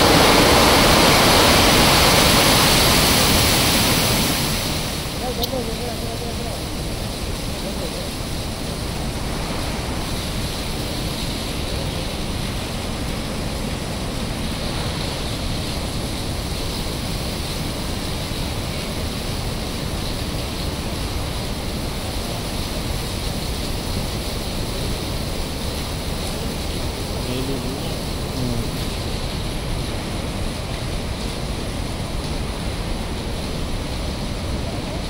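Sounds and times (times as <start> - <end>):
water rushing through spillway: 0.0 - 35.0.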